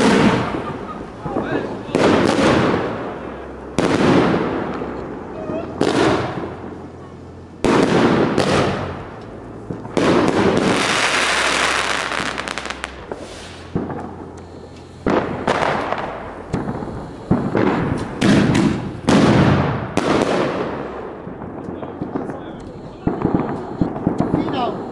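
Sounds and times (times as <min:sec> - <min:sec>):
fireworks bangs: 0:00.0 - 0:24.9
fireworks crackling: 0:00.0 - 0:24.9.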